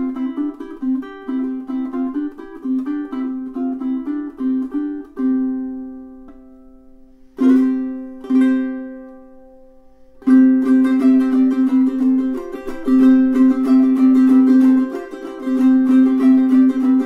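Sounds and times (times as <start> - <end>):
ukulele playing: 0.0 - 17.0.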